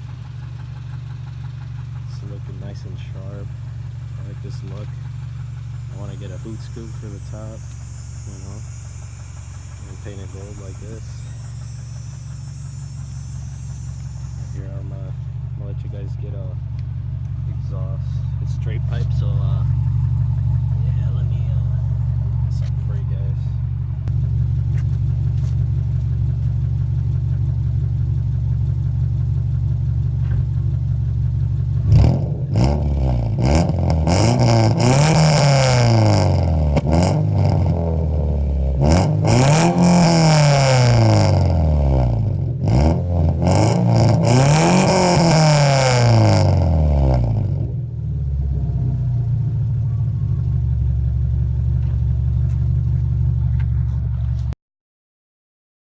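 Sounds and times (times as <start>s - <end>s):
car engine idling and revving: 0.0s - 54.6s.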